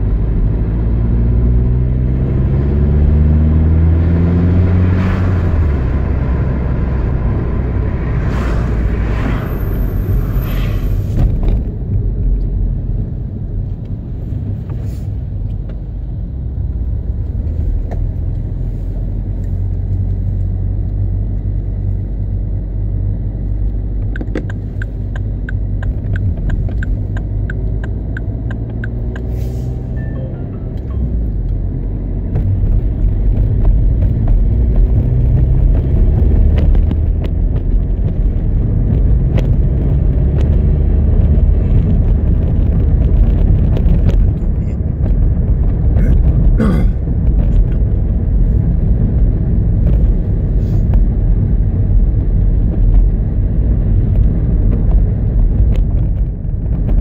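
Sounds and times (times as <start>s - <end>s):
car engine low rumble: 0.0s - 57.0s.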